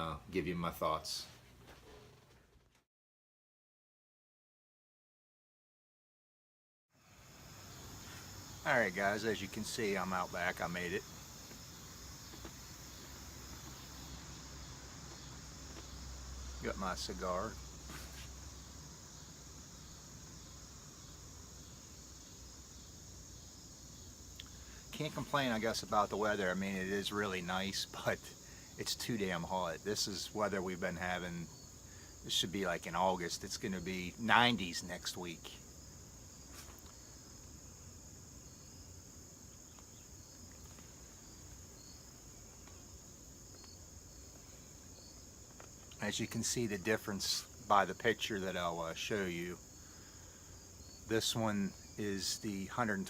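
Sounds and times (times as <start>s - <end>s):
crickets chirping: 7.0s - 53.0s.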